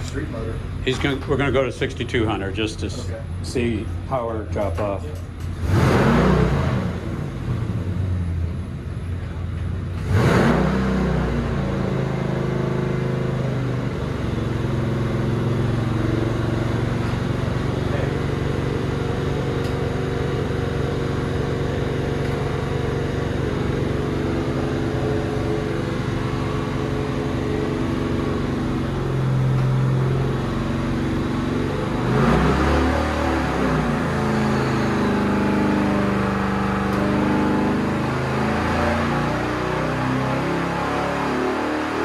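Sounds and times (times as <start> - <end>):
car engine running on a dyno: 0.0 - 42.0.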